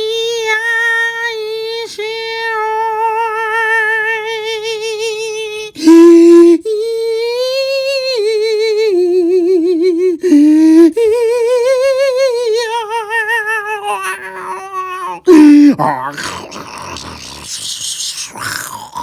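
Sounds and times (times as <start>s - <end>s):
high voice singing with wobble: 0.0s - 7.2s, 7.8s - 19.0s.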